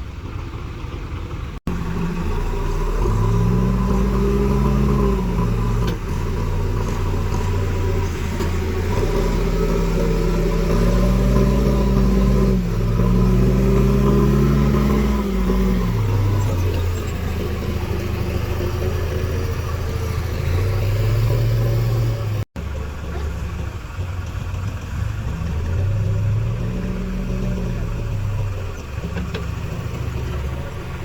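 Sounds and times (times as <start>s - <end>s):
diesel engine revving: 0.0s - 31.0s.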